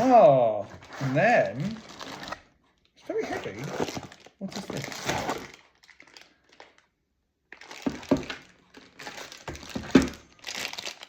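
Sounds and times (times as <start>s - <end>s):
plastic packaging crinkling: 0.8s - 11.0s.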